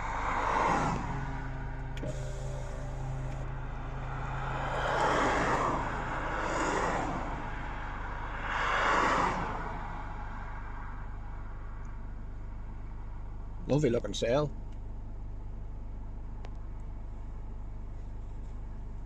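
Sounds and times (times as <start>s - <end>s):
vehicles passing by: 0.0s - 18.7s
steady low hum: 0.0s - 19.0s.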